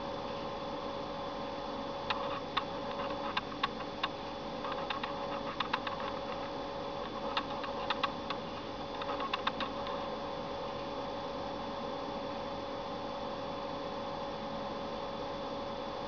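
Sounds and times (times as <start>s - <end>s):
steady electronic hum: 0.0s - 16.0s.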